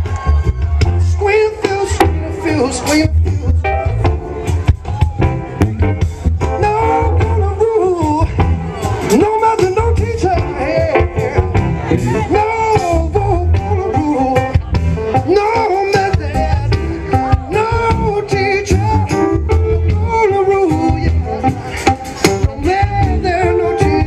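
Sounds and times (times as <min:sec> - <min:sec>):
bass and drum groove: 0:00.0 - 0:24.0
wordless lead melody: 0:00.0 - 0:24.0.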